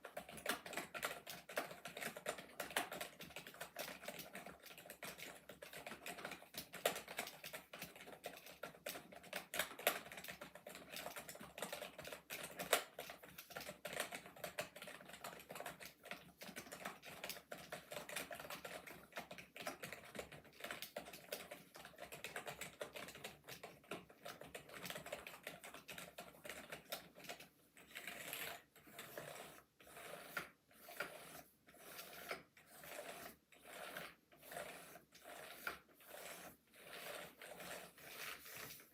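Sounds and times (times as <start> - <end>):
keyboard typing clatter: 0.0 - 38.9.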